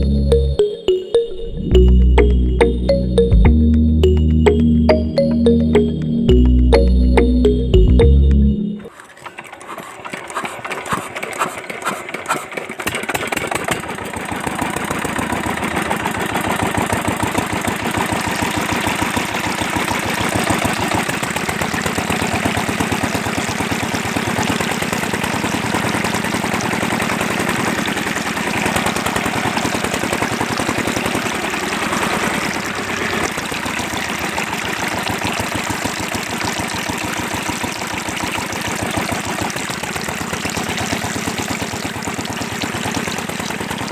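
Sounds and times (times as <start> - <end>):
small diesel engine starting: 8.6 - 43.9.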